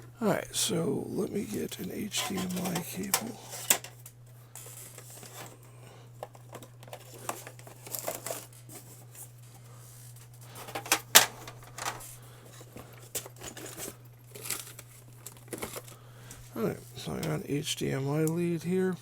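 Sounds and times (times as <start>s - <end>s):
cable rustling and crinkling: 1.1s - 18.6s.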